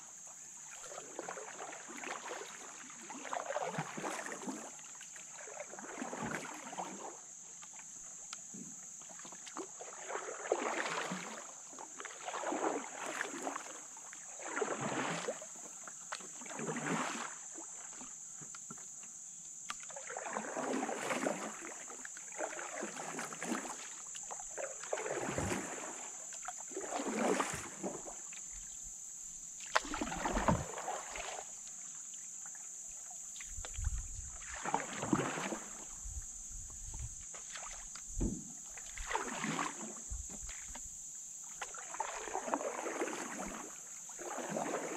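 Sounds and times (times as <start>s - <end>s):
paddle swishing through water: 0.0s - 44.9s.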